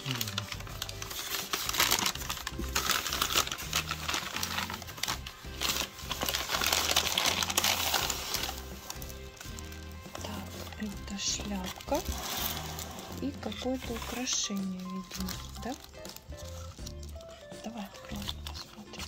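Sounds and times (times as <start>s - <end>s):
background music: 0.0s - 19.0s
paper bag crinkling and rustling: 0.0s - 19.0s.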